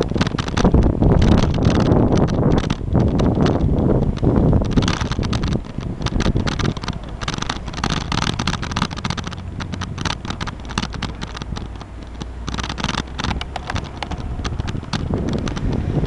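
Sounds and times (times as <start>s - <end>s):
bicycle clicks and rattles: 0.0s - 16.0s
wind on microphone: 0.0s - 16.0s.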